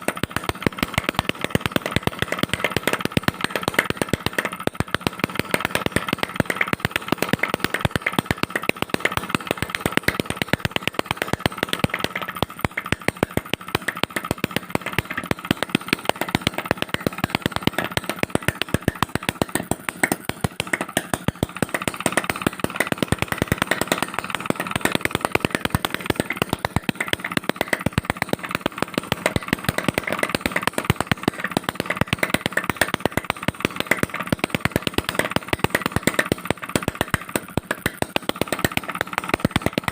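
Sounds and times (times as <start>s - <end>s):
two-stroke engine popping: 0.0s - 39.9s.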